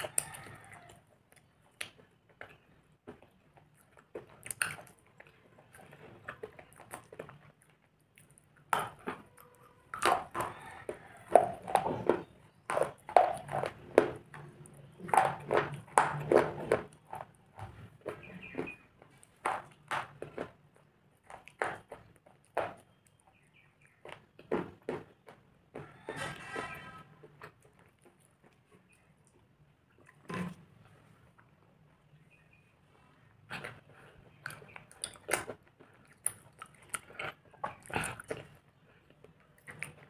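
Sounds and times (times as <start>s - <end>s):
crunchy chewing: 0.0s - 40.0s.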